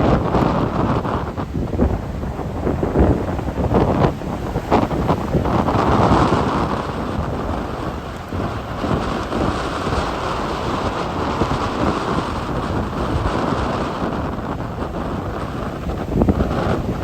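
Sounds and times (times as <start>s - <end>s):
sea: 0.0s - 17.0s
strong wind buffeting microphone: 0.0s - 17.0s.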